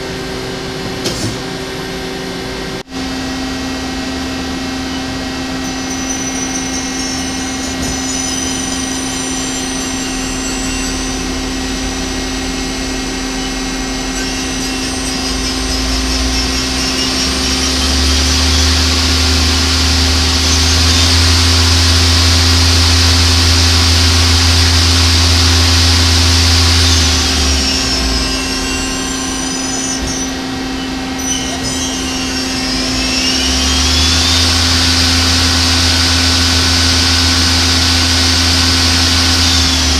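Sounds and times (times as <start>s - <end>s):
lathe machine hum: 0.0s - 39.9s
spindle whine rising and falling: 1.6s - 39.9s.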